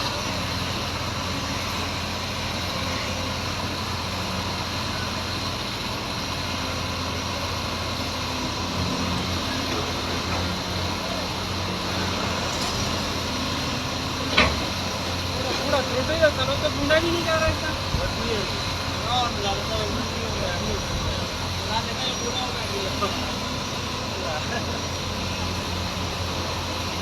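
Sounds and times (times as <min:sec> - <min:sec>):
heavy machine engine running: 0:00.0 - 0:27.0.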